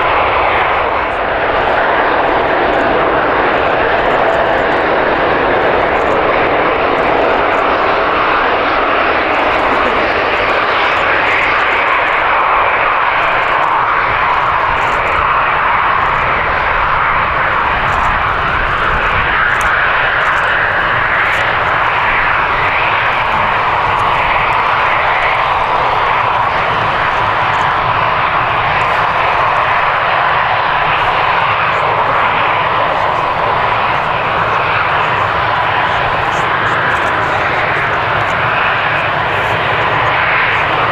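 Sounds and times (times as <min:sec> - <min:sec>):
jet engines rushing: 0:00.0 - 0:40.9
thin steady whine: 0:00.0 - 0:40.9.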